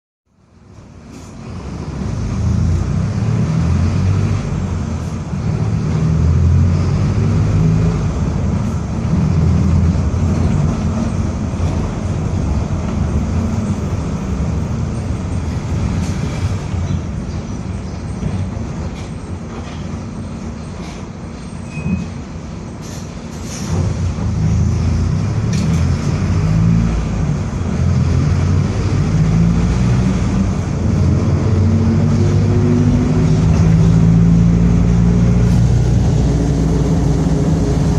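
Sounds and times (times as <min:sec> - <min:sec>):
bus diesel engine rumble: 0:00.3 - 0:37.9.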